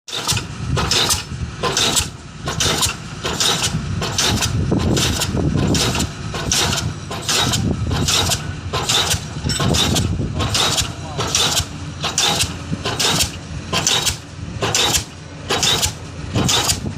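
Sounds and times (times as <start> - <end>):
continuous low rumble: 0.1 - 16.9
pile hammer blows: 0.1 - 16.9.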